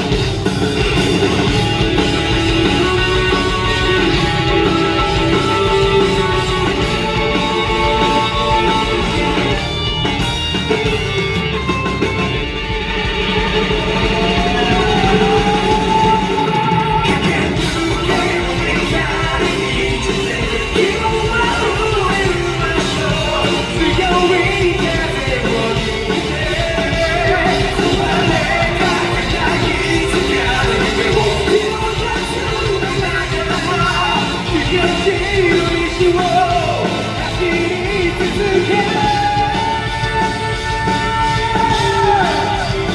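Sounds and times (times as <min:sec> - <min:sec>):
rock band playing: 0:00.0 - 0:42.9
man singing: 0:01.3 - 0:09.9, 0:13.8 - 0:42.9.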